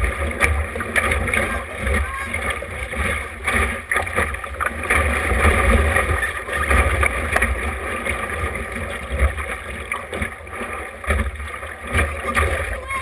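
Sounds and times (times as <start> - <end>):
water splashing along hull: 0.0 - 13.0.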